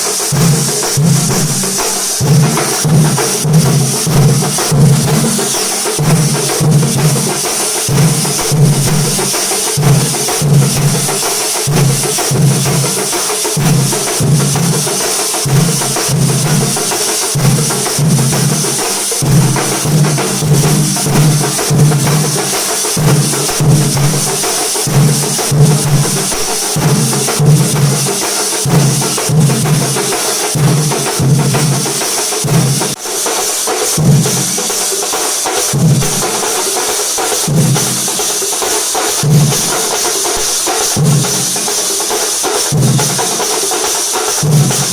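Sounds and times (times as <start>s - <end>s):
deep drums beating: 0.0s - 33.0s, 35.7s - 36.4s, 39.1s - 41.6s, 42.7s - 43.3s, 44.4s - 44.9s.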